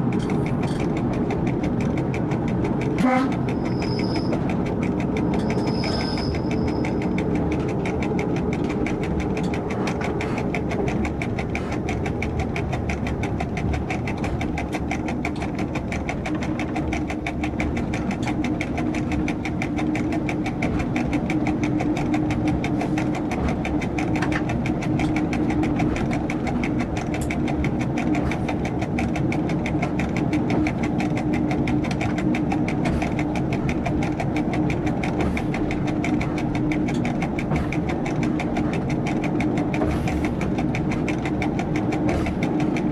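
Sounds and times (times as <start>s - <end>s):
diesel train engine droning: 0.0s - 42.9s.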